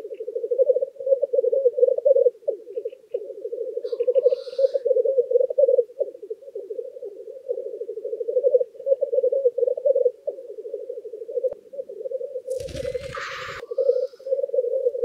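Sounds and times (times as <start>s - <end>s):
black grouse bubbling cooing: 0.0s - 15.0s.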